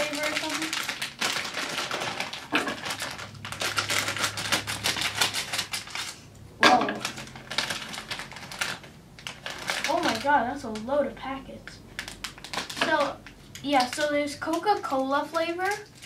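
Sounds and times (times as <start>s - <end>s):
plastic bag crackling: 0.0s - 10.9s, 11.8s - 16.0s.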